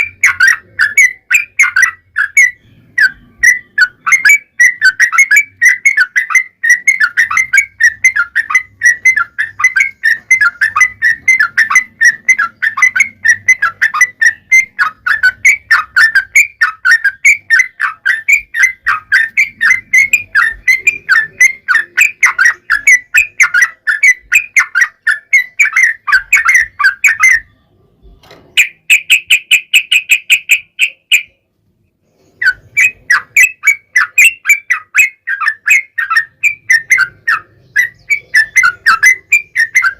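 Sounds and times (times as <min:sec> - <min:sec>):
bird chattering song: 0:00.0 - 0:39.9
bird trill: 0:00.0 - 0:39.9.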